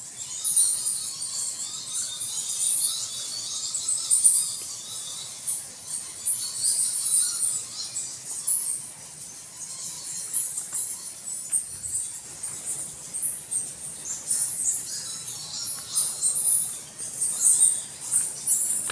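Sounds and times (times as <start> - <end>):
small animals chirping: 0.2 - 18.9.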